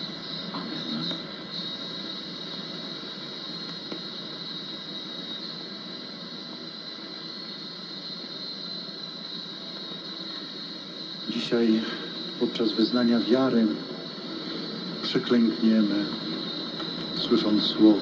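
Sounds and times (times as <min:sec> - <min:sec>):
high-pitched hiss band: 0:00.0 - 0:18.0
radio static hiss: 0:00.0 - 0:18.0.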